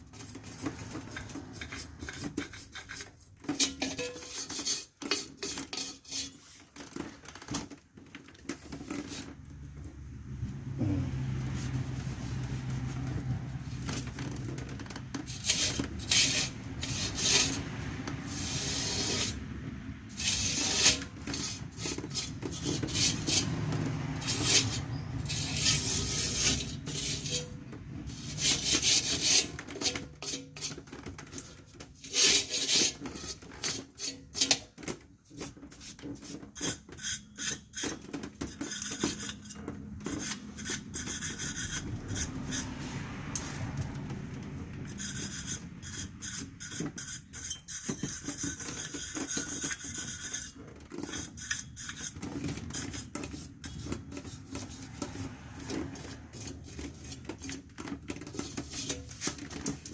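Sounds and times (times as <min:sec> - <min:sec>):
wire brush scrubbing metal: 0:00.0 - 0:06.6, 0:15.3 - 0:19.5, 0:20.1 - 0:34.6, 0:35.4 - 0:59.9.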